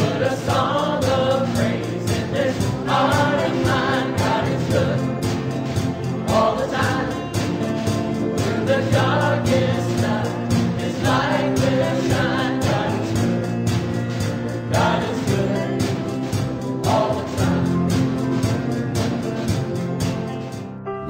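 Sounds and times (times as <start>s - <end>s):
group singing praise song: 0.0s - 18.8s
held instrumental backing: 0.0s - 21.0s.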